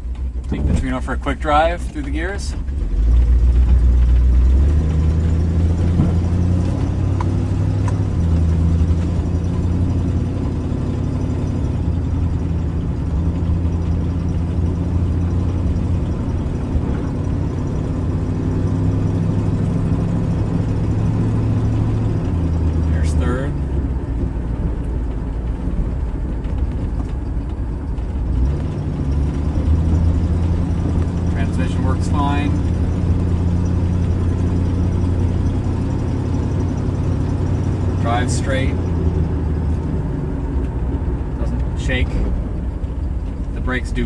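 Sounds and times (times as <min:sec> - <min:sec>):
car engine accelerating through gears: 0:02.0 - 0:44.0.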